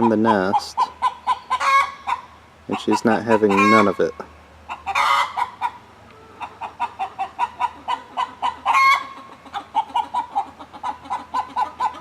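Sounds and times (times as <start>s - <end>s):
hen squawking: 0.0s - 12.0s
hens clucking: 0.0s - 12.0s.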